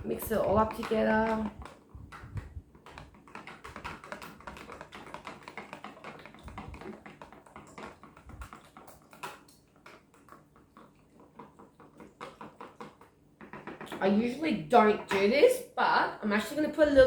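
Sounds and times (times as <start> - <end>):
whisk clicking against bowl: 0.0 - 15.3.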